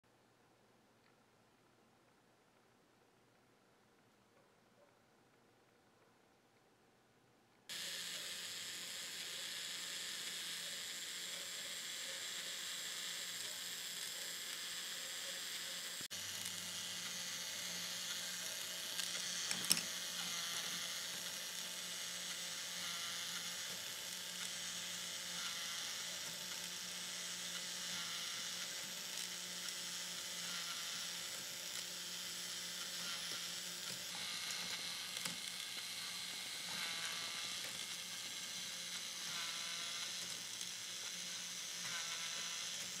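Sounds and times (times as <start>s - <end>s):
toy motor whirring plastic gears: 7.7s - 43.0s.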